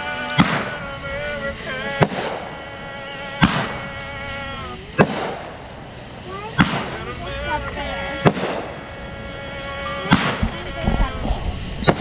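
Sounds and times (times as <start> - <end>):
fireworks whistle: 0.0 - 5.6, 6.4 - 12.0
fireworks bangs: 0.0 - 9.0, 9.9 - 12.0
music: 0.0 - 12.0
voices: 0.0 - 12.0.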